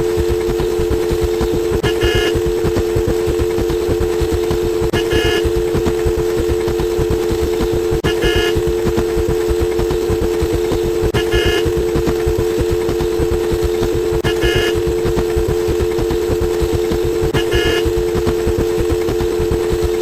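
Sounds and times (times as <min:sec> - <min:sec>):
two-note horn blare: 0:00.1 - 0:20.0.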